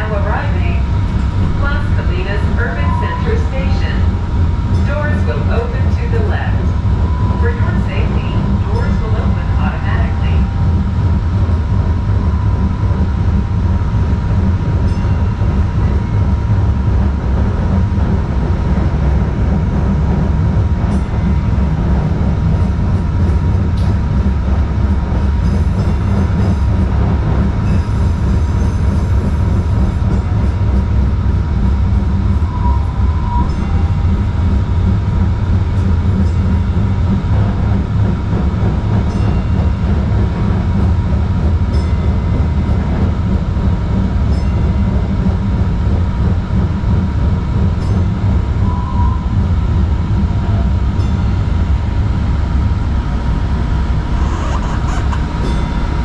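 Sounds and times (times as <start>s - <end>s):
faint steady whine: 0.0s - 56.0s
train wheels rumbling on track: 0.0s - 56.0s.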